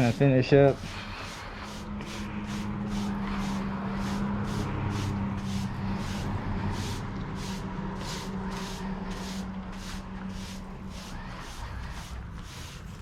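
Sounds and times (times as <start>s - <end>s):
broom sweeping: 0.0s - 13.0s.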